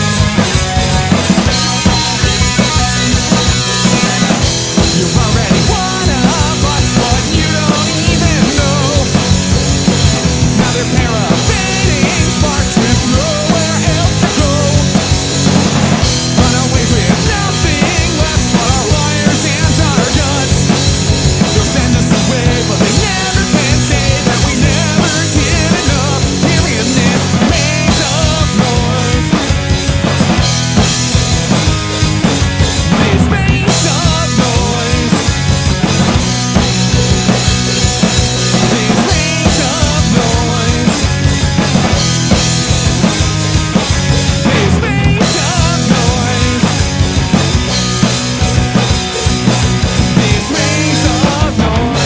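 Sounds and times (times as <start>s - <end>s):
drum kit driving beat: 0.0s - 52.0s
punk rock band playing: 0.0s - 52.0s.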